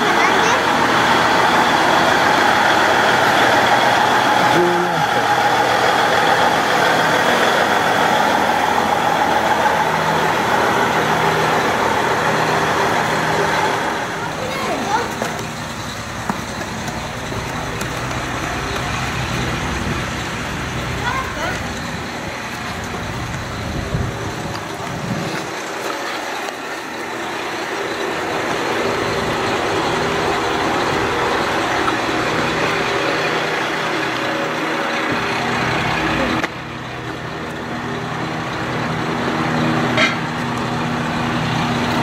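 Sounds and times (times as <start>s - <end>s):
diesel railcar engine idling: 0.0s - 42.0s.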